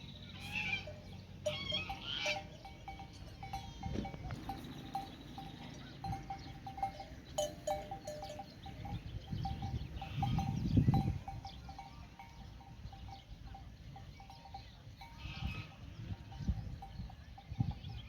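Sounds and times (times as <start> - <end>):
livestock bells clinking: 0.0 - 18.0.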